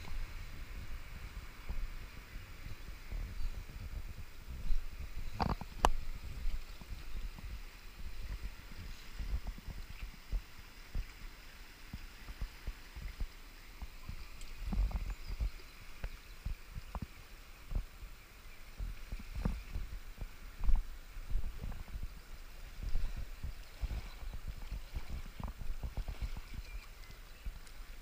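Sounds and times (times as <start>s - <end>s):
low rumbles and thumps: 0.0s - 11.2s, 11.9s - 18.0s, 18.8s - 26.8s
fast flowing river water hissing: 0.0s - 28.0s.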